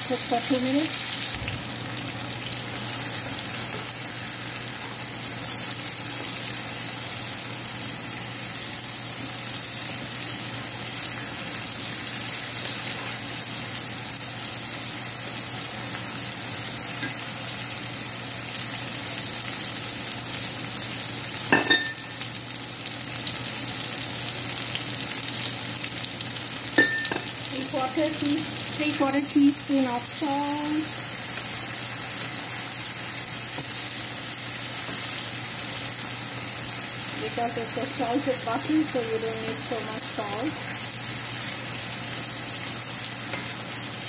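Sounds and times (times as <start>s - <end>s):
vegetables sizzling in butter: 0.0s - 44.0s.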